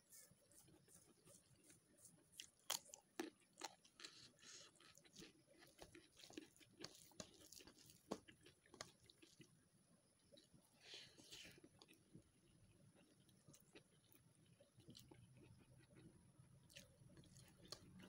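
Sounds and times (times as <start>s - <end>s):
chewing with moist smacks: 0.2s - 18.0s.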